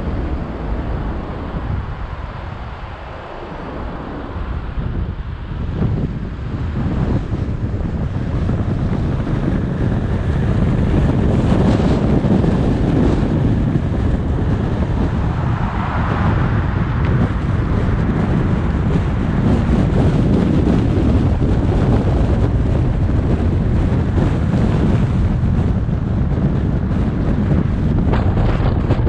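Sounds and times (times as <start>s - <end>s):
car driving rumble: 0.0s - 29.0s
wind buffeting microphone: 0.0s - 29.0s.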